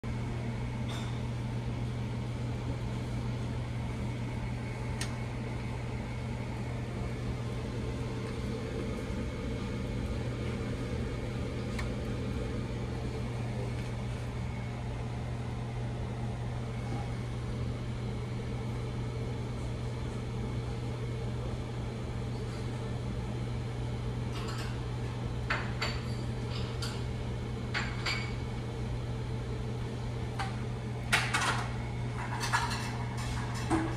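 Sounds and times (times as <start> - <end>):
machine electrical hum: 0.0 - 33.9.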